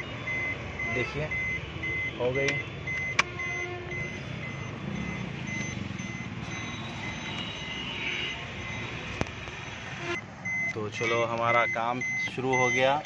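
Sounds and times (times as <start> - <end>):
car key reminder beeping: 0.0 - 13.0.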